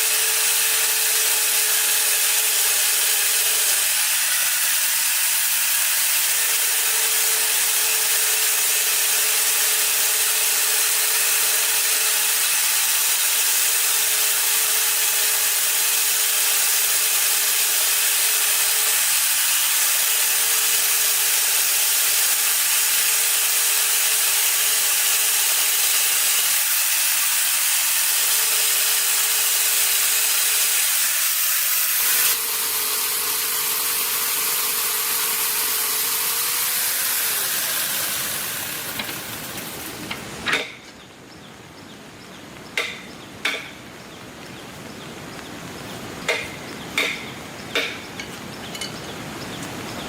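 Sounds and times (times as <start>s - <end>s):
power tool working wood: 0.0s - 40.6s.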